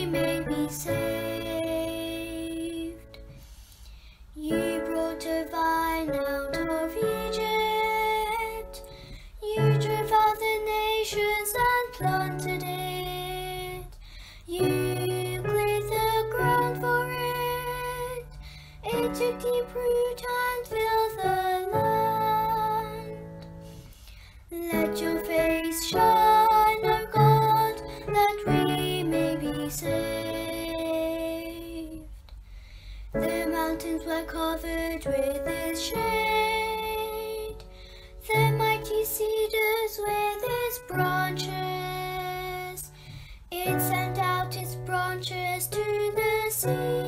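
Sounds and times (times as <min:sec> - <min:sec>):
woman singing: 0:00.0 - 0:03.3, 0:04.4 - 0:23.4, 0:24.5 - 0:32.1, 0:33.2 - 0:47.0
piano chords: 0:00.0 - 0:03.5, 0:04.4 - 0:32.1, 0:33.0 - 0:47.0.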